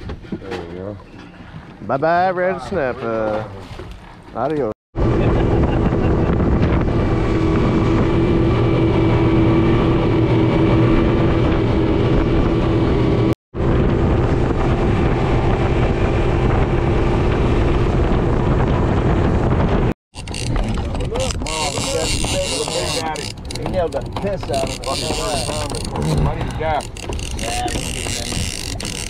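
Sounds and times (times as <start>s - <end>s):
outboard motors humming: 0.0s - 29.0s
wind and water rushing: 1.4s - 29.0s.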